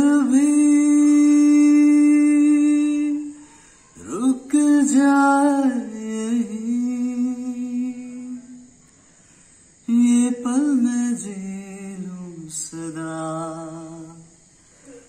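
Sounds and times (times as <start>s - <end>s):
man singing slow melody: 0.0s - 8.8s, 9.8s - 15.0s.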